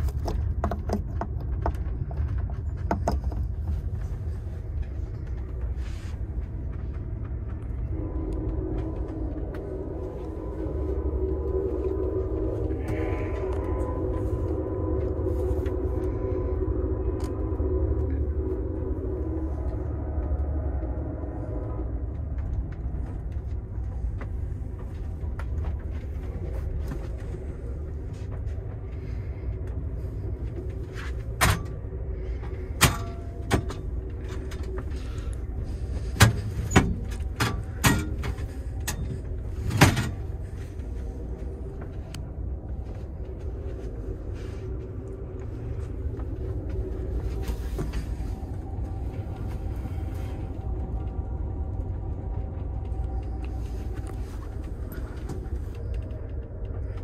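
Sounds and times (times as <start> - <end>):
multi-tone hum: 0.0 - 57.0
train interior rumble: 0.0 - 57.0.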